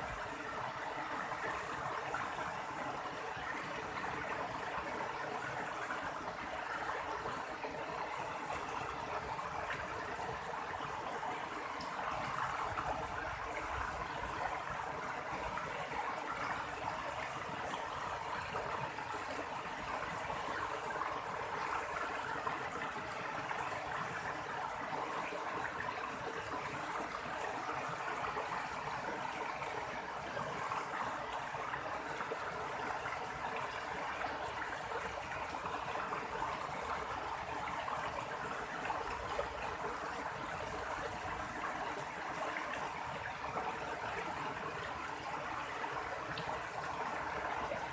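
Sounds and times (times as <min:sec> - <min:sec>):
stream water babbling over rocks: 0:00.0 - 0:47.9.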